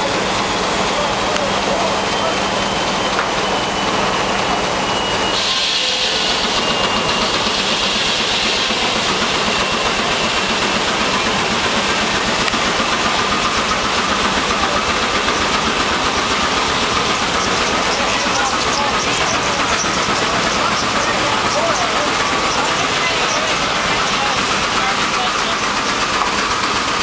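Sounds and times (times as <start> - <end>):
steam traction engine running: 0.0 - 27.0
thin steady whine: 0.0 - 27.0.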